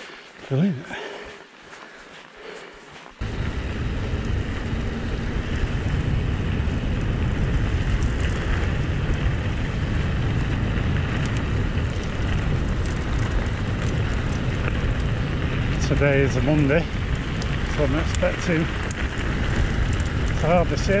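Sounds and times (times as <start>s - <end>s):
bike tyres crunching on gravel: 0.0s - 21.0s
wind buffeting microphone: 3.2s - 21.0s.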